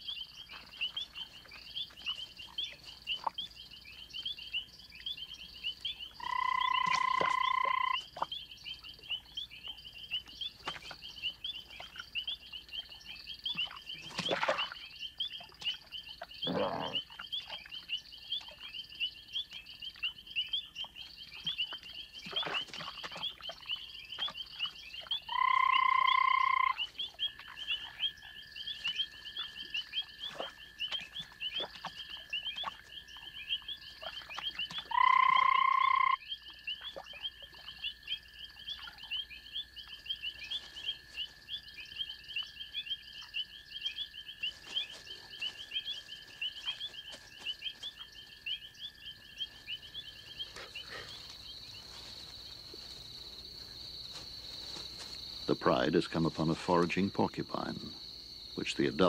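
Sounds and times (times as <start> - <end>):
loud steady-pitched frog call: 0.0 - 10.2, 14.6 - 22.6, 23.3 - 56.0
frogs chirping: 0.0 - 59.0.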